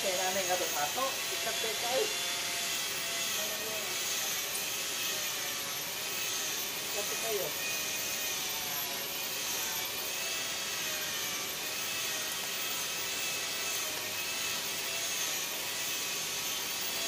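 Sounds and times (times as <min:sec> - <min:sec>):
machine hiss and whir: 0:00.0 - 0:17.0.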